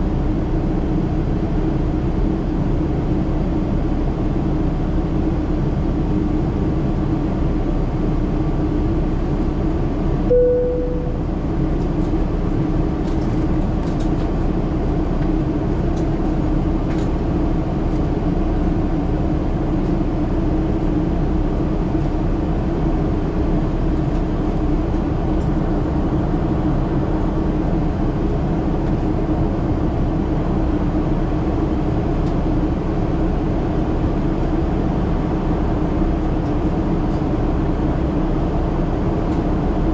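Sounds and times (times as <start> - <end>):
aircraft cabin engine drone: 0.0 - 39.9
constant low hum: 0.0 - 39.9.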